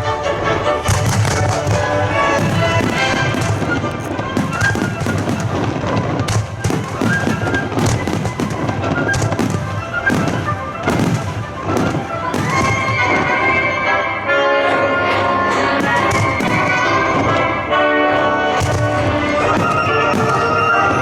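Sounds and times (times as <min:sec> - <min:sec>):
fireworks bursting: 0:00.0 - 0:14.4, 0:15.6 - 0:21.0
music with sustained tones: 0:00.0 - 0:21.0.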